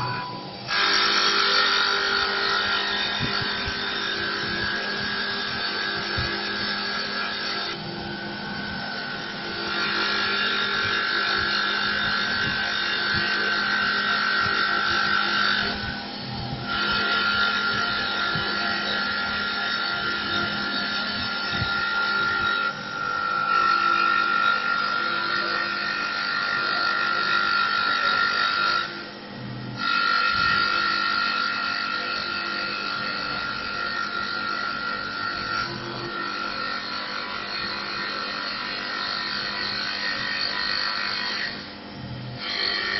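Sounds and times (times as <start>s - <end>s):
rasping wood cutting: 0.0s - 29.2s, 29.8s - 42.9s
lathe whining and humming: 0.0s - 42.9s.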